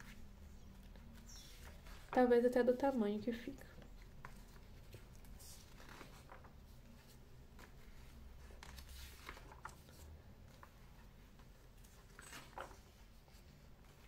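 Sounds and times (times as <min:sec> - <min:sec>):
magazine pages rustling: 0:00.0 - 0:02.8, 0:03.8 - 0:14.0.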